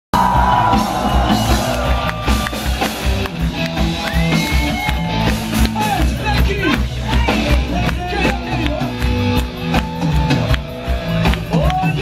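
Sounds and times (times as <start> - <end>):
punk rock band playing live: 0.1 - 12.0
electric guitar: 0.2 - 12.0
pounding drums: 0.2 - 12.0.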